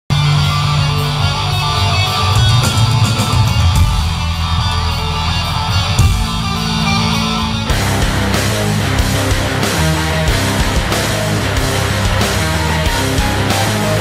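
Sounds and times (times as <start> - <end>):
hard rock music: 0.1 - 14.0.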